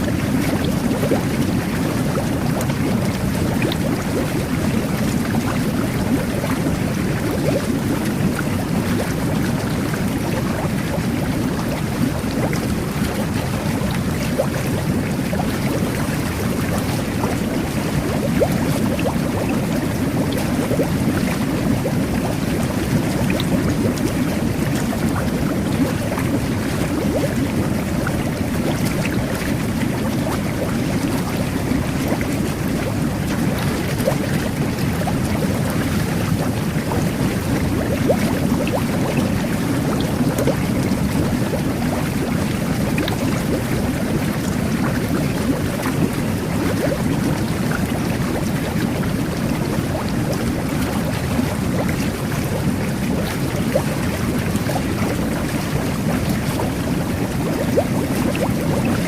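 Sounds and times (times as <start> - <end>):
bubbles popping: 0.0 - 59.0
whirlpool jets churning water: 0.0 - 59.0.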